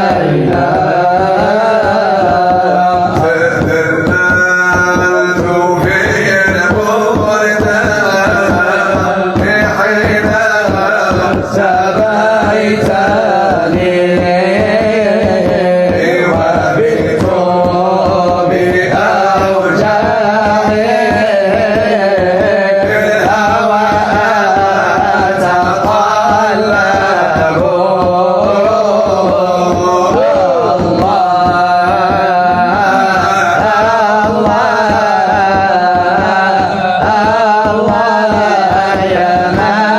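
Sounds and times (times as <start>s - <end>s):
person singing religious song: 0.0s - 39.9s
steady drum beat: 0.0s - 39.9s.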